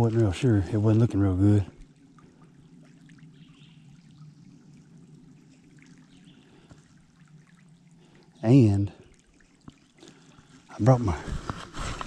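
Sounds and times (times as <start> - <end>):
creek water trickling: 0.0 - 12.0
small water splashes: 0.0 - 12.0.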